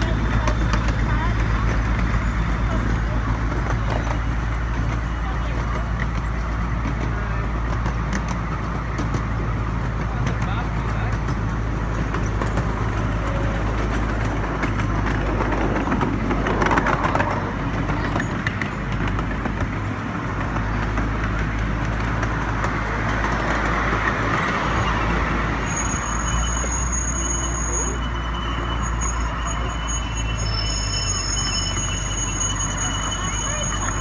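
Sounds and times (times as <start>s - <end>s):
miniature train rumbling and rattling: 0.0s - 34.0s
wheels clicking on rails: 0.0s - 34.0s.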